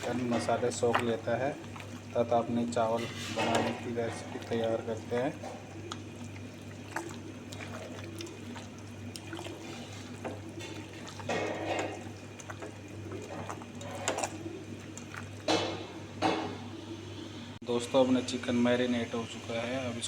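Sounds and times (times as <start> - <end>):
wet liquid sounds: 0.0 - 17.4
steady low hum: 0.0 - 20.0.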